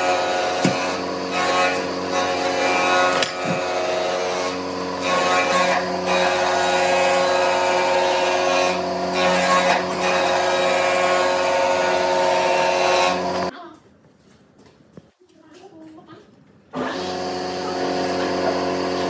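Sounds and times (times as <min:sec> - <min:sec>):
power tool motor hum: 0:00.0 - 0:13.5, 0:16.8 - 0:19.0.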